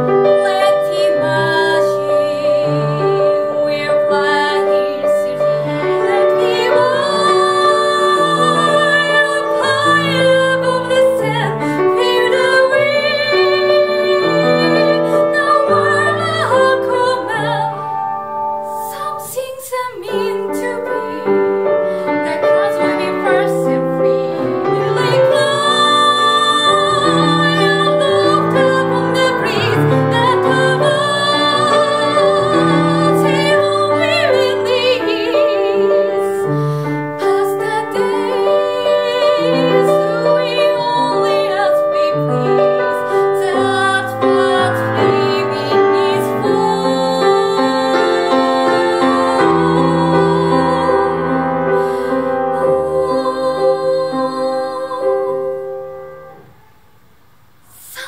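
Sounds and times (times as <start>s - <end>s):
woman singing with vibrato: 0.0s - 55.9s, 57.7s - 58.0s
grand piano: 0.0s - 58.0s.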